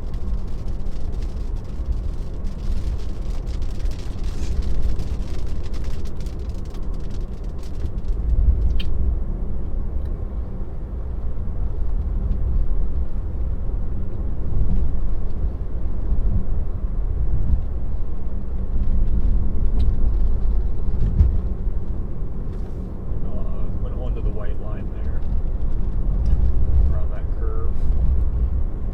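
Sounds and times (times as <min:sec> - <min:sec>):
road and tyre rumble in car: 0:00.0 - 0:28.9.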